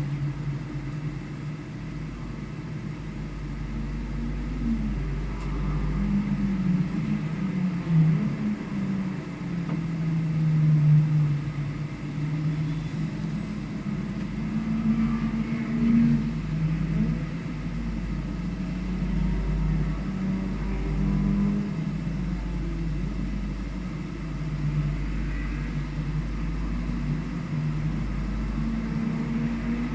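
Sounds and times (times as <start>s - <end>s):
low rumble: 0.0s - 29.9s.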